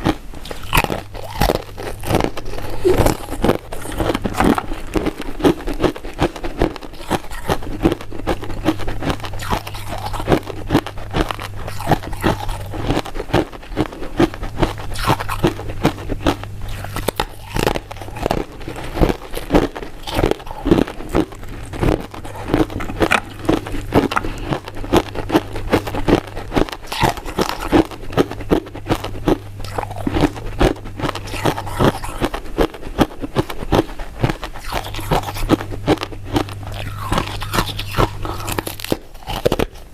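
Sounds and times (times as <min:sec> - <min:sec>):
chewing and crunching sweets: 0:00.0 - 0:39.9.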